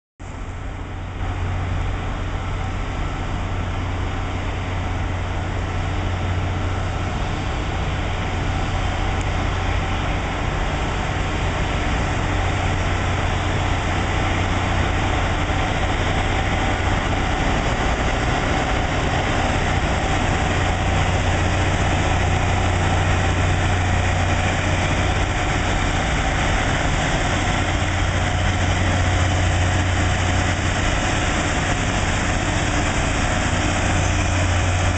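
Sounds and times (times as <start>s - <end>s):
deep engine hum: 0.2s - 34.9s.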